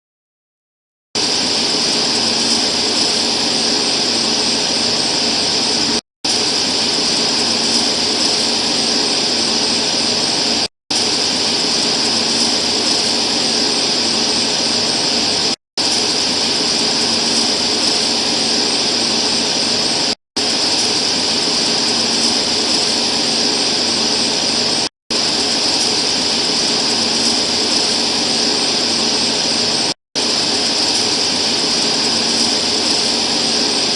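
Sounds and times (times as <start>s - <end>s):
loud steady hiss: 1.2s - 33.9s.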